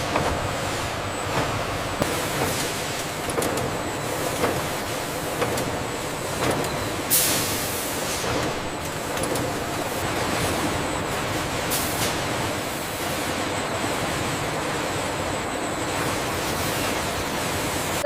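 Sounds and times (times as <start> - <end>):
production-line machinery running: 0.0 - 18.0.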